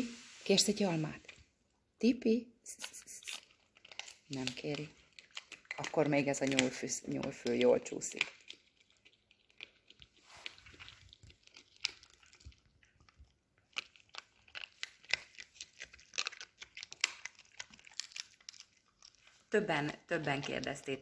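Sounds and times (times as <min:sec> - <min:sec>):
dog chewing crunchy treat: 0:03.0 - 0:21.0.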